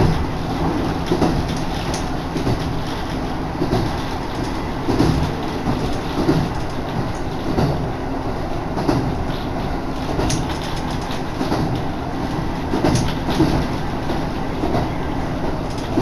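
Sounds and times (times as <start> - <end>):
railcar rumble: 0.0 - 16.0
wheel clatter over rail joints: 0.0 - 16.0
wind: 0.0 - 16.0.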